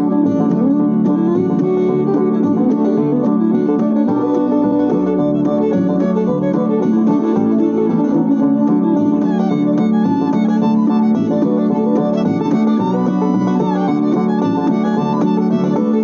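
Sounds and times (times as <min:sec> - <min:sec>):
fiddle: 0:00.0 - 0:16.0
plucked strings: 0:00.0 - 0:16.0.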